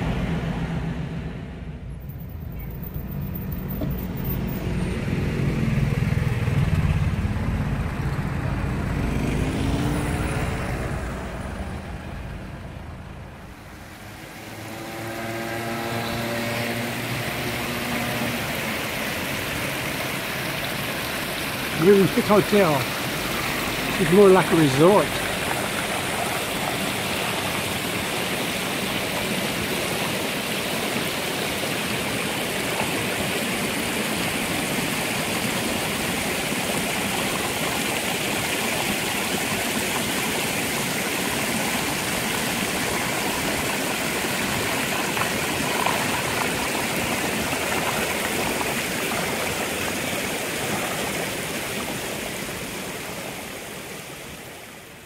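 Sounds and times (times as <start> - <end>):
fountain water splashing into pool: 2.9 - 55.0.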